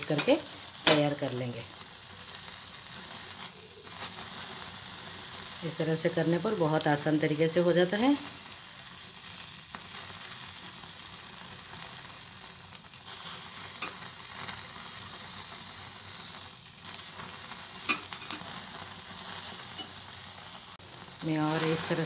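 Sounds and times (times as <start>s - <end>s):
cauliflower sizzling: 0.0s - 22.0s
gas burner flame hissing: 0.0s - 22.0s.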